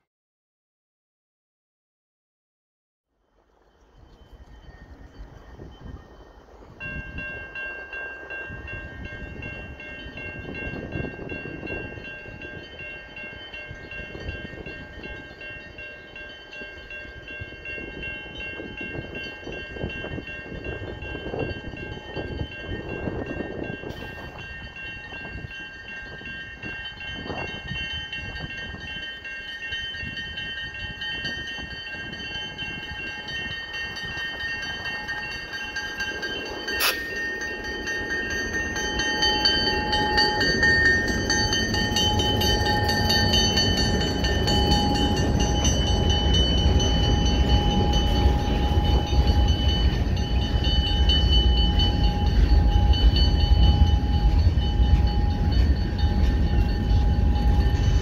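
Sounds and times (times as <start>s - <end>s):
diesel locomotive and rail rumble: 4.2s - 58.0s
steady high tones: 4.3s - 58.0s.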